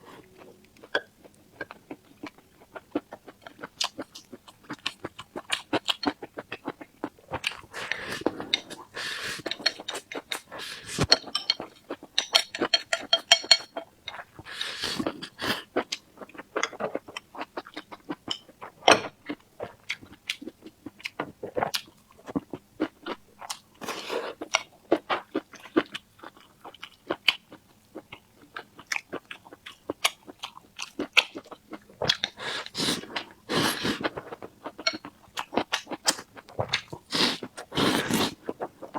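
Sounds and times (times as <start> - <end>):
chewing with crunching bites: 0.0 - 38.9.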